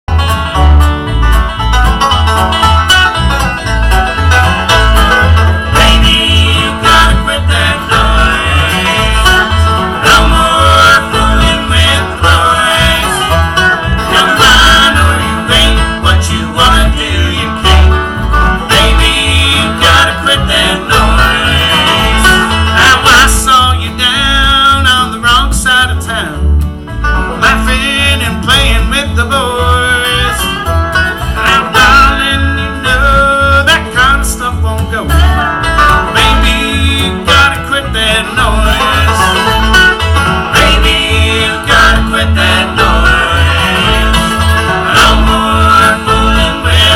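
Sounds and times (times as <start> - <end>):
banjo picking: 0.1 - 46.9
bass beat: 0.1 - 46.9
fiddle: 0.1 - 46.9
guitar picking: 0.1 - 46.9.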